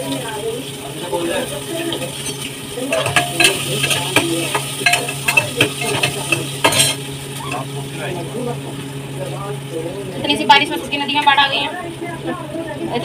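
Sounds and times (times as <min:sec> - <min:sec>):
food frying: 0:00.0 - 0:13.0.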